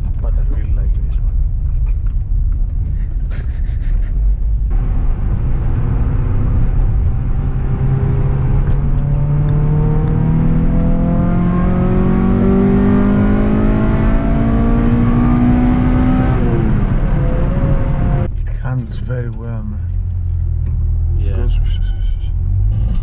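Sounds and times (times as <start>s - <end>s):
car engine accelerating: 4.2s - 23.0s.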